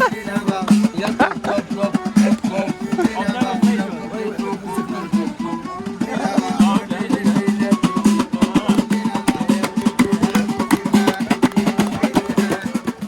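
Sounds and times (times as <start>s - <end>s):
fast busy drum beat: 0.0s - 13.0s.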